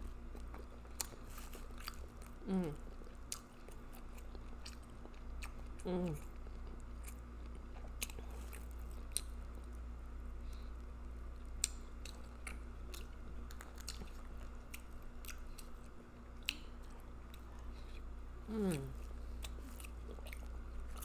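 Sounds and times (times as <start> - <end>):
low steady hum: 0.0 - 21.0
chewing and lip smacking: 0.3 - 9.8, 10.4 - 21.0.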